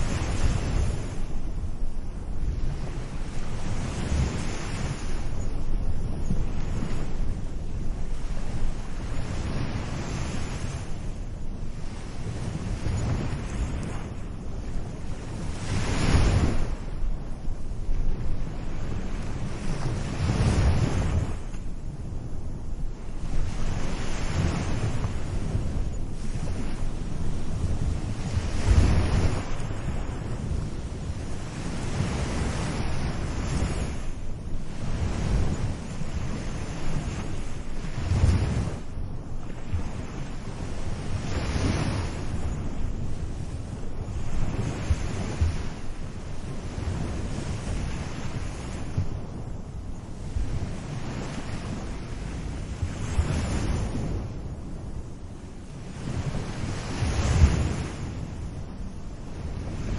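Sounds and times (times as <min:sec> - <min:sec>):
sea waves washing onto beach: 0:00.0 - 0:59.9
wind buffeting microphone: 0:00.0 - 0:59.9.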